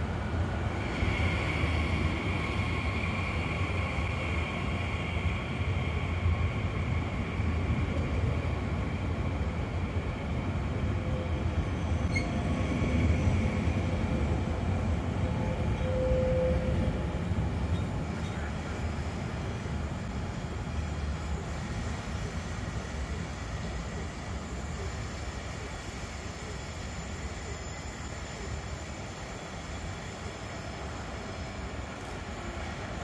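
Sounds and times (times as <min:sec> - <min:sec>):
faint high whine: 0:00.0 - 0:33.0
train wheels rumbling on track: 0:00.0 - 0:33.0.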